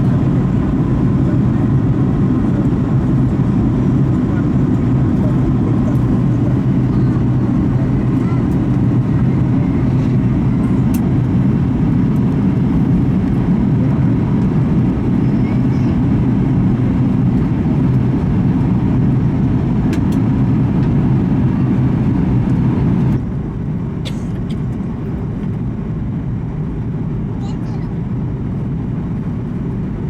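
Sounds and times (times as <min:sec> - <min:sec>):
deep rumble of jet engines: 0:00.0 - 0:30.0.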